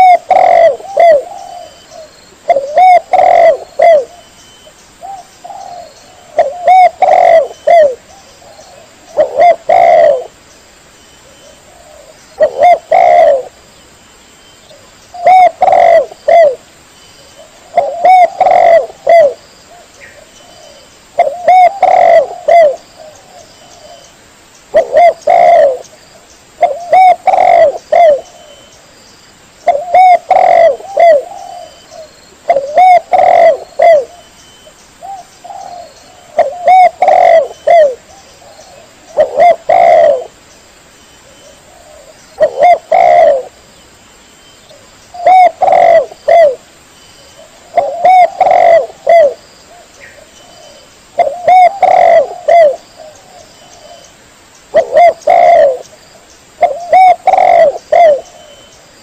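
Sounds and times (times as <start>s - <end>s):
dove cooing: 0.0s - 10.4s, 11.2s - 13.6s, 14.7s - 16.6s, 17.3s - 24.1s, 24.7s - 25.9s, 26.6s - 28.7s, 29.6s - 34.3s, 35.0s - 40.4s, 41.2s - 43.6s, 44.7s - 46.7s, 47.4s - 54.1s, 54.7s - 56.0s, 56.6s - 58.7s.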